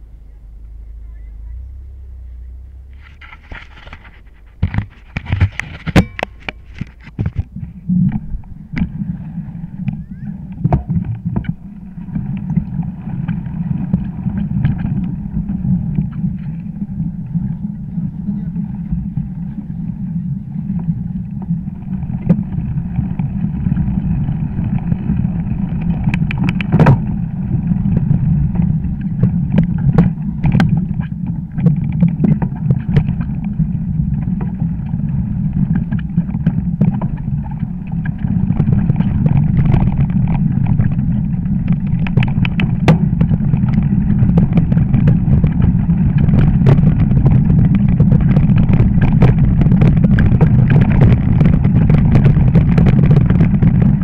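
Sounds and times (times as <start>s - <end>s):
wind noise on camera: 2.4s - 54.0s
bike knocks and rattles: 3.0s - 19.5s, 20.8s - 54.0s.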